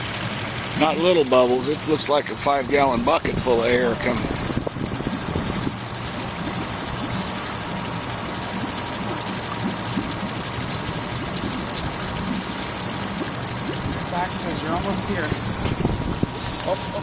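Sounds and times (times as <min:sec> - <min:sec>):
boat motor humming: 0:00.0 - 0:17.0
wind and water hiss: 0:00.0 - 0:17.0.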